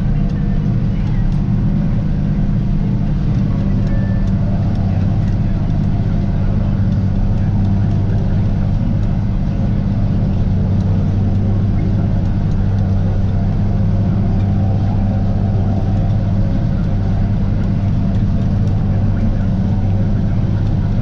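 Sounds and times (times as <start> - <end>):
tractor and forage harvester drone: 0.0 - 21.0.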